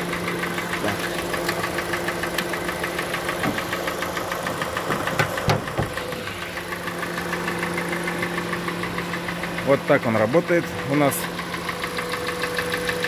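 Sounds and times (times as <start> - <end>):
car engine idling with knock: 0.0 - 13.0
sharp engine clicks: 0.0 - 13.0.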